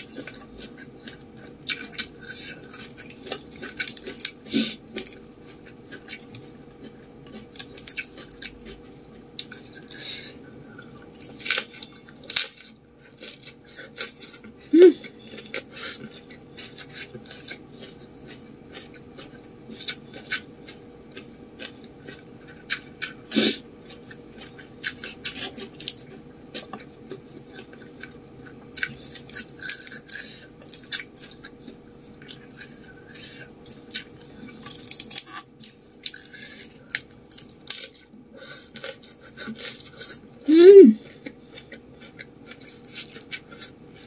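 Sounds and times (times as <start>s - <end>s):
person chewing and slurping: 0.0s - 40.3s, 41.0s - 44.0s.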